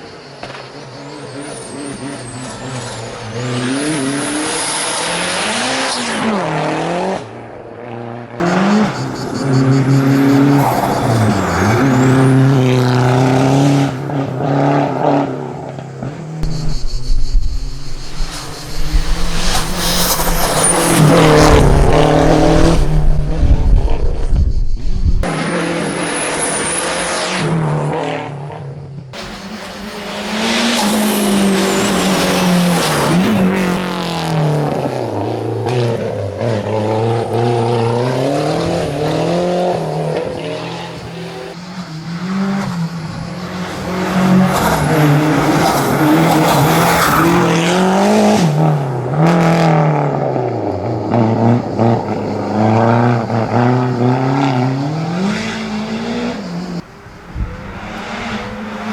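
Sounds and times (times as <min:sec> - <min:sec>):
race car engine revving: 0:00.4 - 0:28.6, 0:29.2 - 0:58.9.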